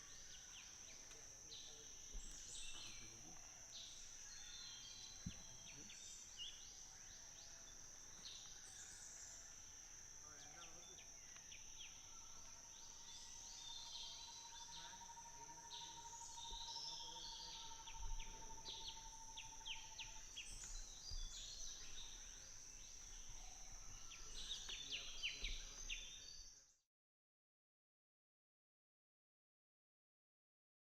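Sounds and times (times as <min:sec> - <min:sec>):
pulsing insect trill: 0:00.0 - 0:26.4
bird chirps: 0:00.0 - 0:26.6
high insect drone: 0:00.0 - 0:26.6.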